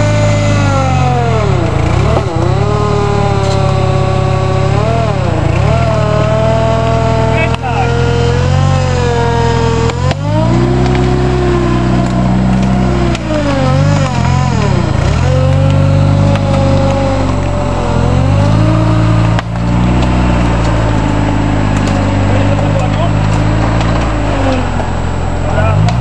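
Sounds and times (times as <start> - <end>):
engine revving under heavy load: 0.0 - 26.0.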